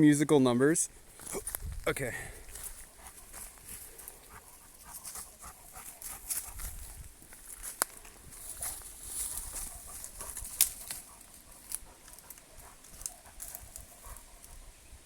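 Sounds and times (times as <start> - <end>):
footsteps crunching through dry leaves: 1.0 - 14.2.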